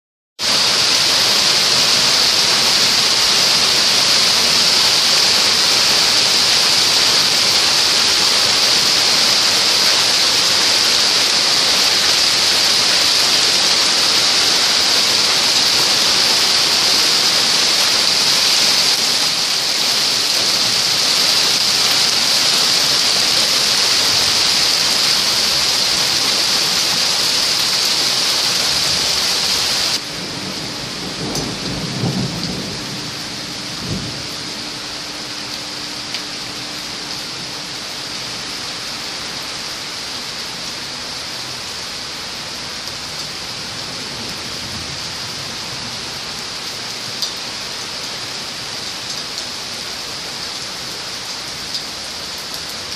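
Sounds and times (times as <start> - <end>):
heavy rain and hail: 0.4 - 52.9.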